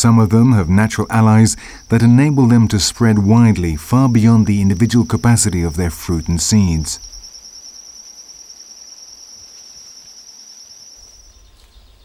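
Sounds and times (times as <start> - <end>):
faint forest ambience hiss: 0.0 - 12.0
high-pitched insect trill: 0.0 - 12.0.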